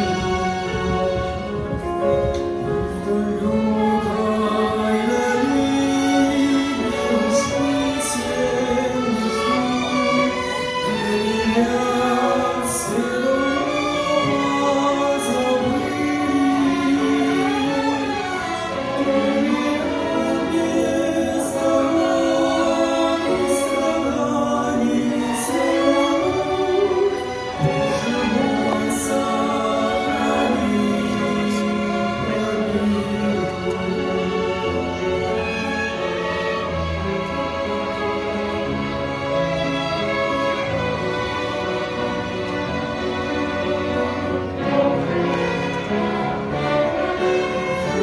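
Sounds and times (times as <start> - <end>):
choir singing long held notes: 0.0 - 48.0.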